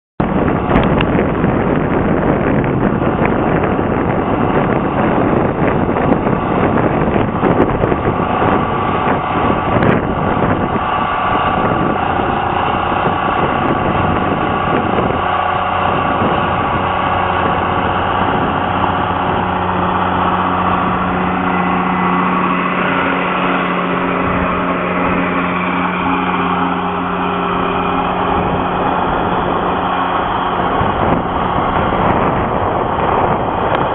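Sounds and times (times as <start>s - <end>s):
tractor engine running: 0.2s - 33.9s
plow clattering and scraping: 0.5s - 33.9s.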